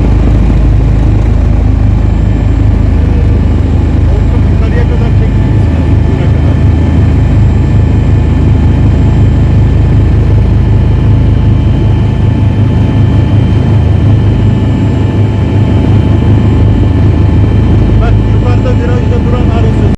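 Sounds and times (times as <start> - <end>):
aircraft engine droning: 0.0 - 19.9.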